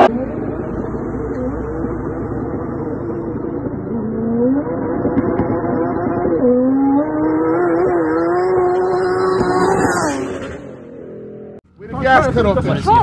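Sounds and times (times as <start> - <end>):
car engine accelerating hard: 0.0 - 11.6.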